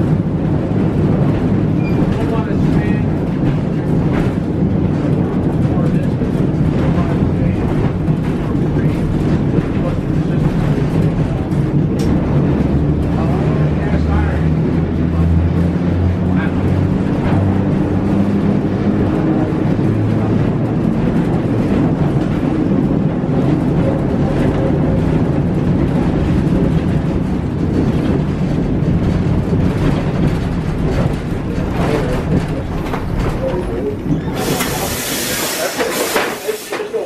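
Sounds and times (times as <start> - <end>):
streetcar wheels rumbling on rail: 0.0 - 37.0.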